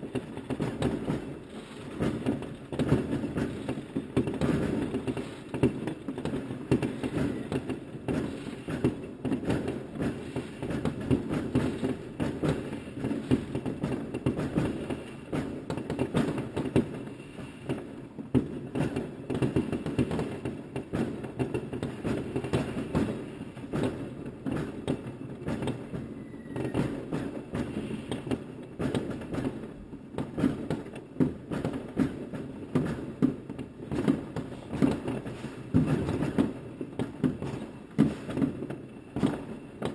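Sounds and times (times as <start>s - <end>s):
fireworks and firecrackers bangs: 0.0s - 39.9s.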